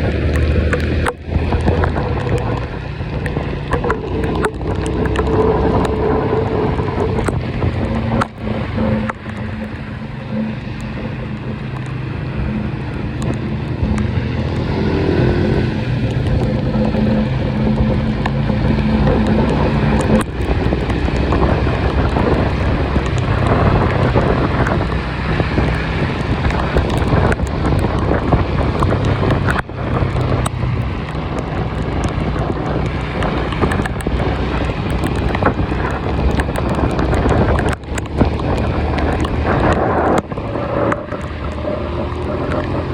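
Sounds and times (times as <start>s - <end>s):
vehicle engine droning: 0.0s - 42.9s
wind noise on microphone: 0.0s - 42.9s.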